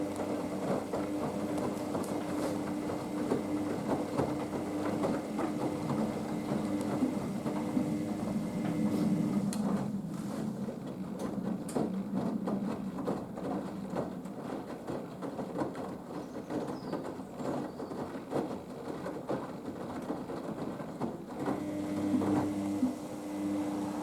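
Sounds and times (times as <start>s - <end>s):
washing machine motor hum: 0.0s - 15.6s, 19.4s - 24.0s
laundry tumbling in drum: 0.0s - 24.0s.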